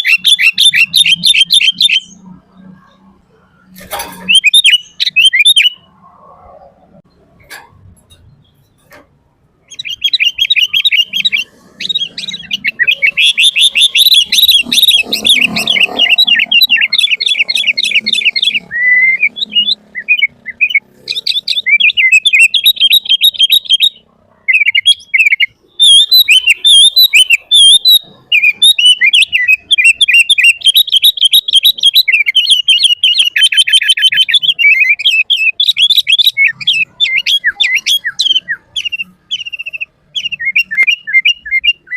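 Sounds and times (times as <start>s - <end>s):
bulbul singing: 0.0s - 41.9s.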